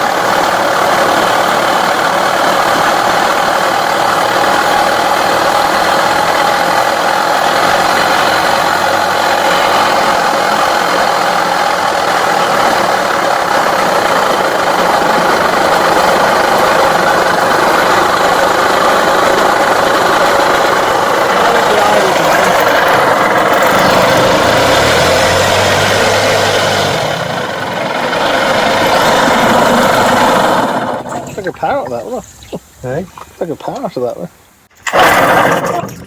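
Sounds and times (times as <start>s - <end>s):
rattling engine knock: 0.0s - 32.0s
outboard motor running: 0.0s - 36.0s.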